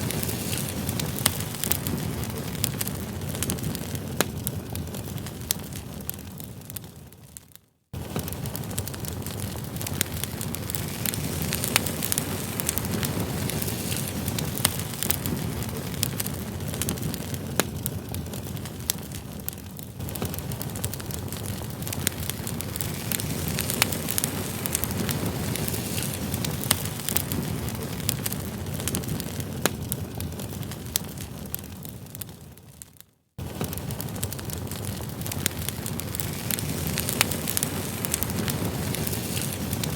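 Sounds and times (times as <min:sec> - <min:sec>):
campfire flames rushing: 0:00.0 - 0:39.9
logs crackling and popping: 0:00.0 - 0:39.9.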